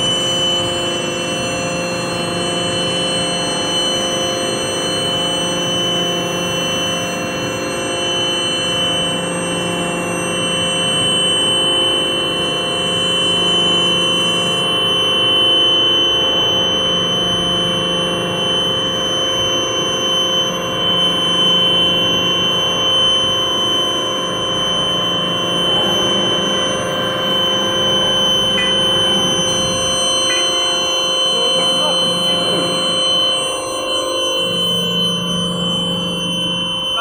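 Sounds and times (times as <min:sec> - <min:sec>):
machine humming and whining: 0:00.0 - 0:37.0.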